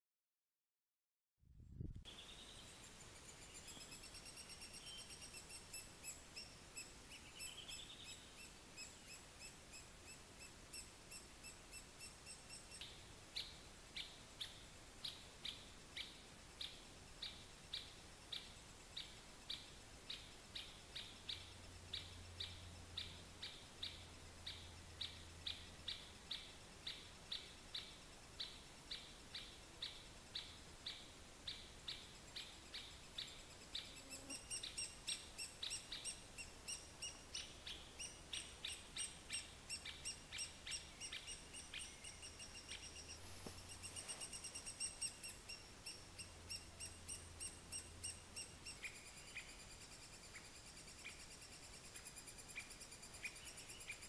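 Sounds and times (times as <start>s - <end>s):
woodpecker chirps: 2.1s - 54.0s.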